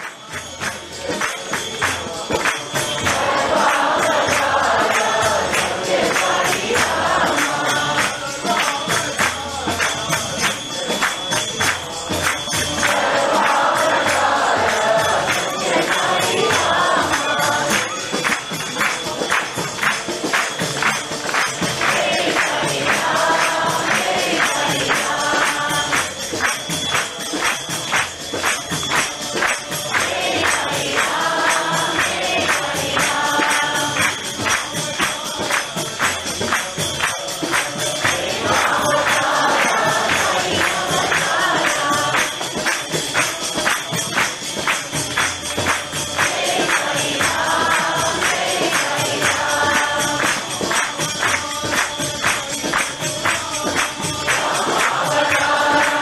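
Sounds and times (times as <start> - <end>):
fast percussion beat: 0.0 - 56.0
group of voices singing: 0.0 - 56.0.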